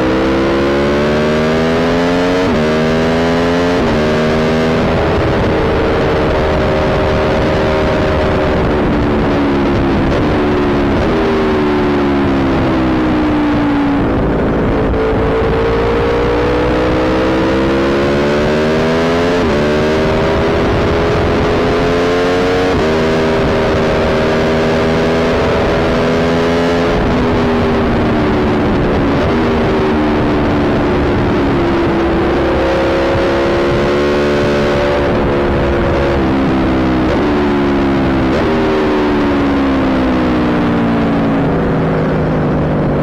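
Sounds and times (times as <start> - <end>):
motorcycle engine pulling hard: 0.0 - 43.0
steady rush of noise: 0.0 - 43.0.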